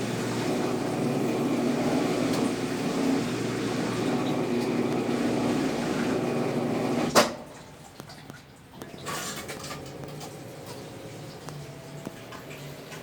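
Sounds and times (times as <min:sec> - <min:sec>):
washing machine motor and drum drone: 0:00.0 - 0:13.0.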